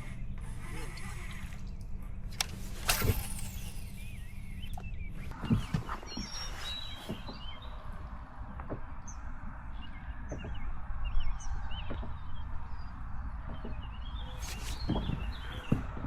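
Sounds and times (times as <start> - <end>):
small birds chirping: 2.8 - 16.0.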